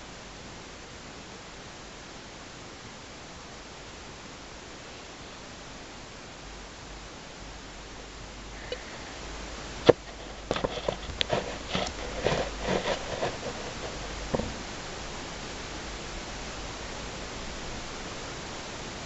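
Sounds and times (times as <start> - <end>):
camera microphone hiss: 0.0 - 19.0.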